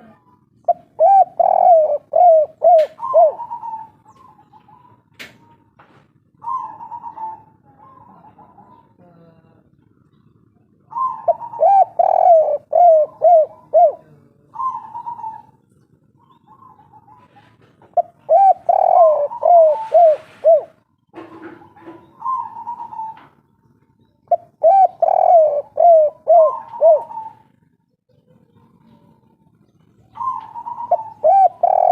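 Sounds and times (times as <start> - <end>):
dove cooing: 0.0 - 9.1, 9.9 - 23.5, 24.3 - 31.9.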